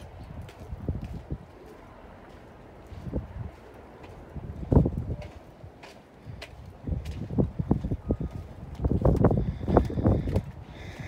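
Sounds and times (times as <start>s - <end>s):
wind on microphone: 0.0s - 1.7s, 2.8s - 11.0s
footsteps on dirt: 0.0s - 10.6s.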